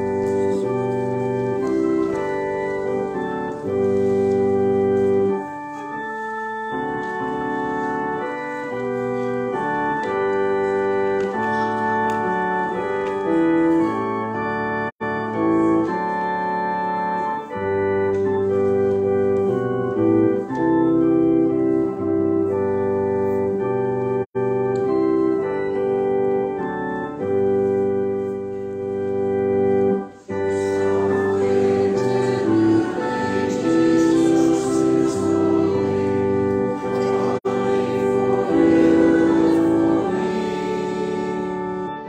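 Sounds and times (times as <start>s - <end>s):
organ playing sustained chords: 0.0s - 42.0s.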